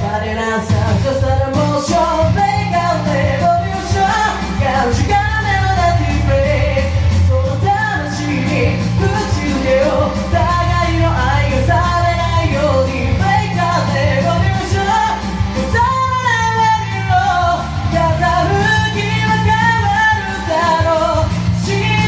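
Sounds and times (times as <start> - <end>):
person singing: 0.0 - 22.0
rock band backing track: 0.0 - 22.0.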